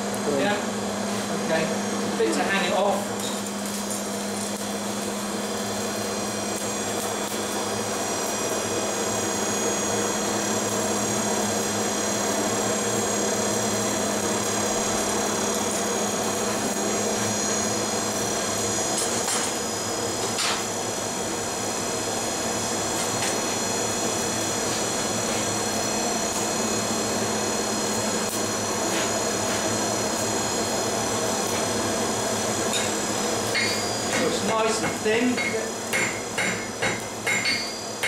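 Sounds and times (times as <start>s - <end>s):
machine running noise: 0.0s - 38.0s.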